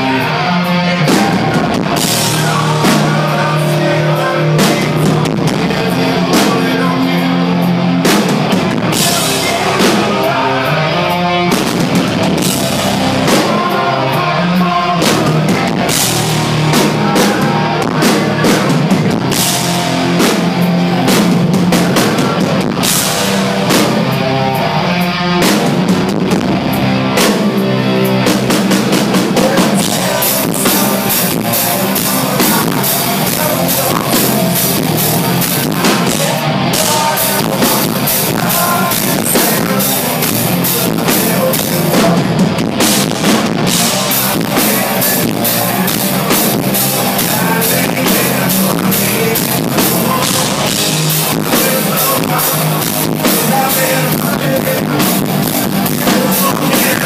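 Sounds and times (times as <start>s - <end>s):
bass guitar: 0.0s - 57.0s
drum kit pounding: 0.0s - 57.0s
electric guitar: 0.0s - 57.0s.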